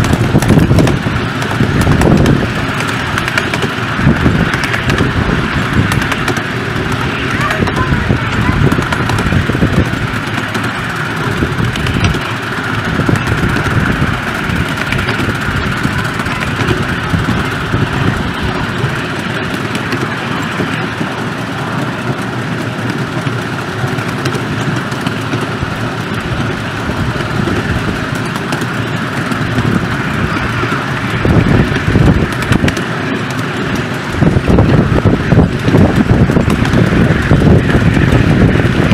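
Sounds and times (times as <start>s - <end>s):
miniature train wheels clattering on rail: 0.0s - 38.9s.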